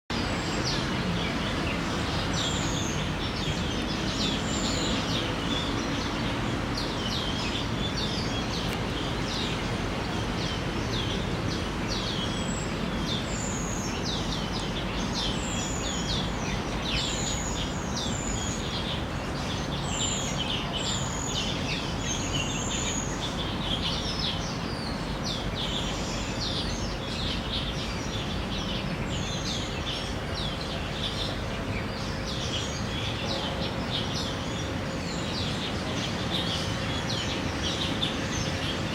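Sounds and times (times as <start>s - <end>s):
low background noise: 0.1s - 38.9s
small birds chirping: 0.1s - 38.9s.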